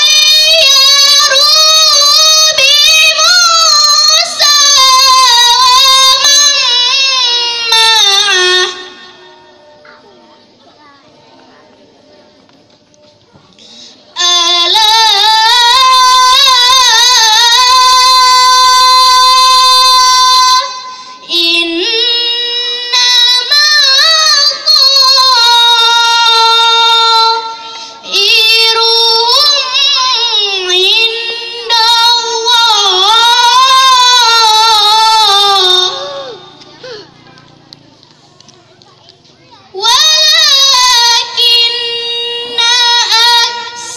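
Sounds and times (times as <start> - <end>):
girl reciting melodically: 0.0 - 11.8, 13.5 - 43.9.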